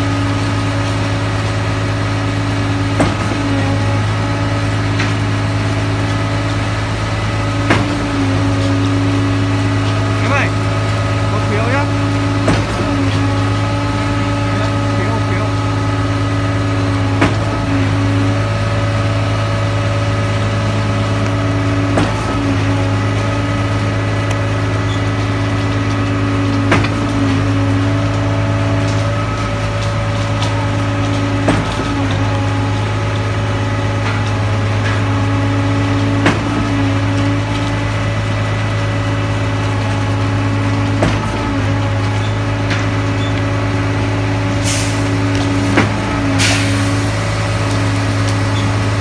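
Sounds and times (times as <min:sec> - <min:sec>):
heavy engine idling: 0:00.0 - 0:49.0.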